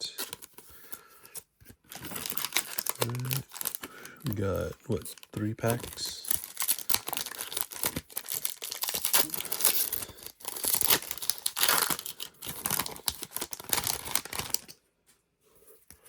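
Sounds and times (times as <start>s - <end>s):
foil wrapper tearing and crinkling: 1.8s - 14.8s.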